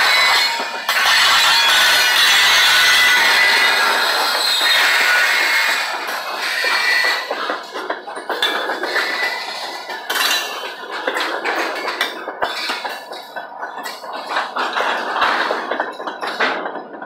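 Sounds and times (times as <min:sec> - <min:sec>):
metallic clanking and rattling: 0:00.0 - 0:17.0
steel wheels on rails: 0:00.0 - 0:17.0.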